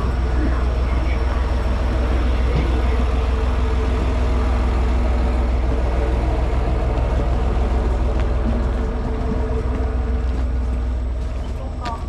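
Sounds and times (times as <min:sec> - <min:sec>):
diesel engine low drone: 0:00.0 - 0:12.0
steady hum: 0:00.0 - 0:12.0.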